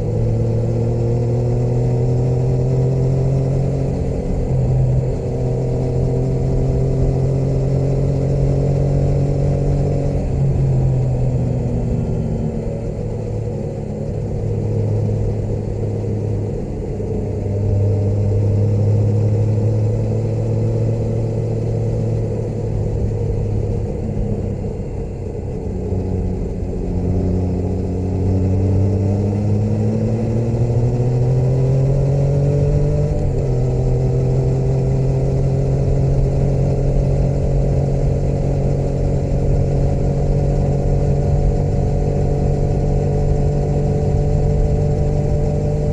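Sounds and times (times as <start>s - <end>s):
motorcycle engine running: 0.0s - 45.9s
wind and road noise: 0.0s - 45.9s.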